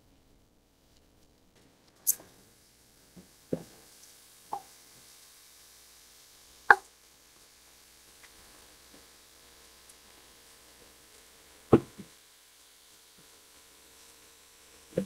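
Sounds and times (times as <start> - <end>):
faint oil hiss: 0.0 - 15.0.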